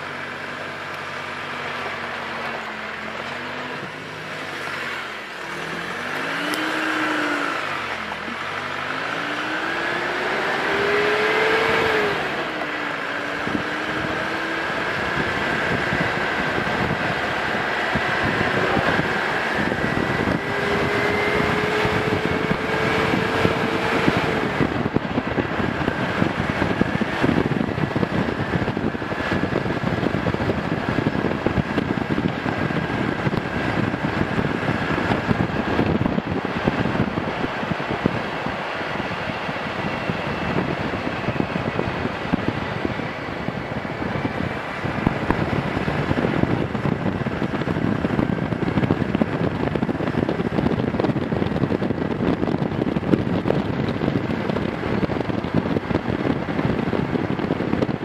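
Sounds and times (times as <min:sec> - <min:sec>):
vehicle engine accelerating: 0:00.0 - 0:58.0
wind and road noise: 0:00.0 - 0:58.0.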